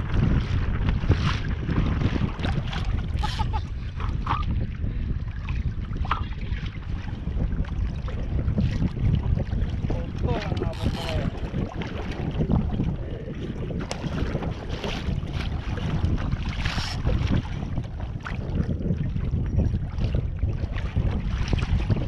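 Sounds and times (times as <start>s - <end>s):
water lapping against kayak hull: 0.0s - 22.0s
wind buffeting microphone: 0.0s - 22.0s.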